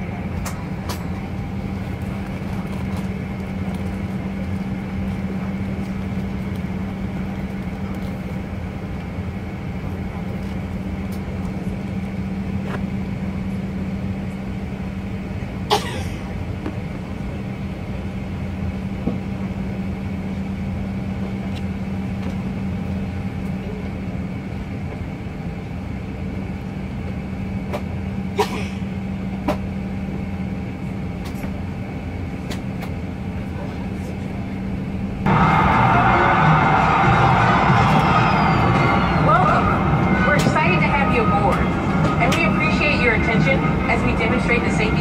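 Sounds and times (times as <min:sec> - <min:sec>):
airplane cabin hum: 0:00.0 - 0:45.0.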